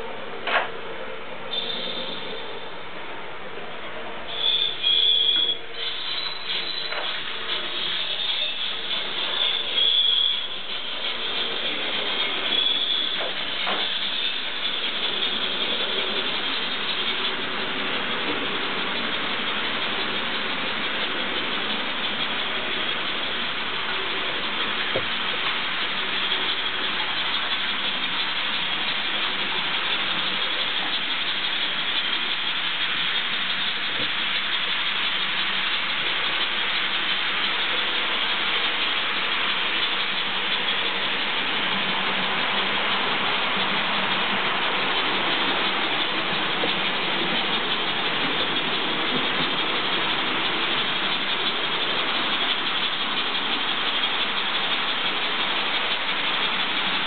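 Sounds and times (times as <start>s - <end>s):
model train wheels and motors: 0.0s - 57.0s.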